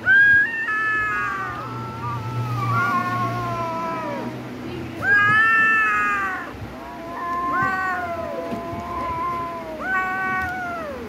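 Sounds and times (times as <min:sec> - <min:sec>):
kittens meowing: 0:00.0 - 0:04.4, 0:05.0 - 0:11.0.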